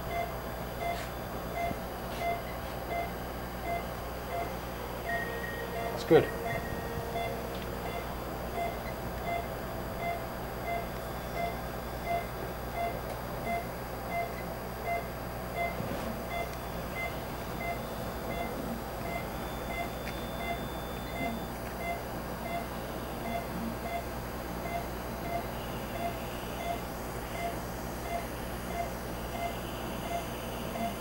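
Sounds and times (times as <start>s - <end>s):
equipment hum: 0.0s - 31.0s
patient monitor pulse beeps: 0.1s - 31.0s.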